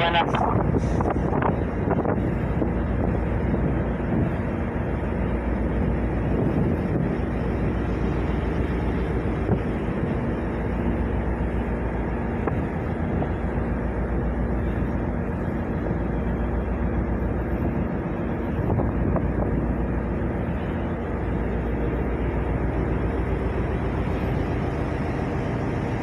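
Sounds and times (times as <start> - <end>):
ship engines rumbling: 0.0 - 26.0
wind buffeting microphone: 0.0 - 26.0.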